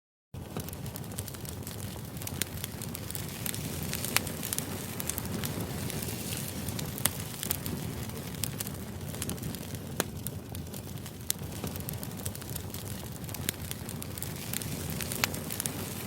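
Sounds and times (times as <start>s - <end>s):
fire crackling and popping: 0.4s - 16.0s
low fire rumble: 0.4s - 16.0s.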